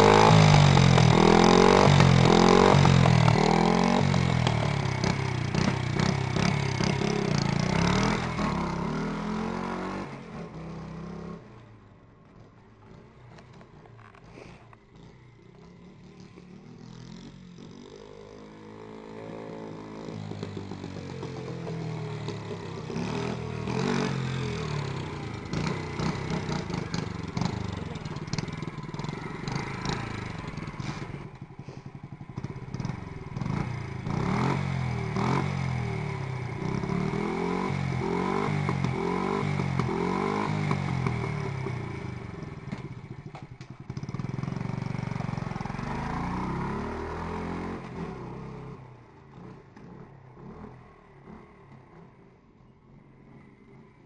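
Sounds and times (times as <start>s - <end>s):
minibike engine revving: 0.0s - 11.6s, 12.4s - 52.3s.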